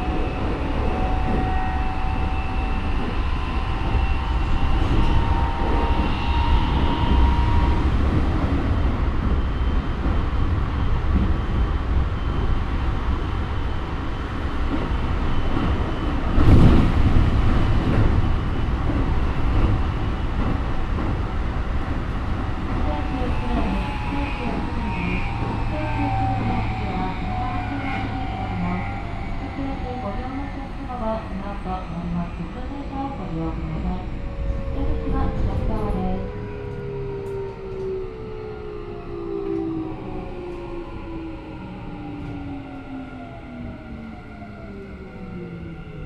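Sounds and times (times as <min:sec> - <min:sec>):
train inverter whine: 0:00.0 - 0:46.0
train wheel and track rumble: 0:00.0 - 0:46.0.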